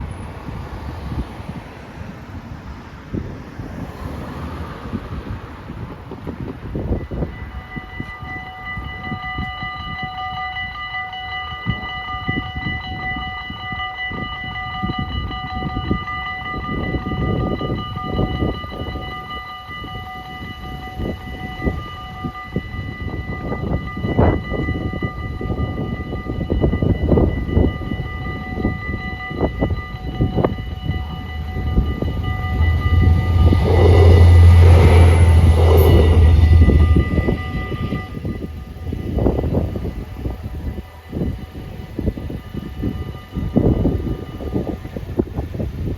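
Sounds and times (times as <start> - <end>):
diesel railcar passing: 0.0 - 45.9
level crossing bells ringing: 6.8 - 45.0.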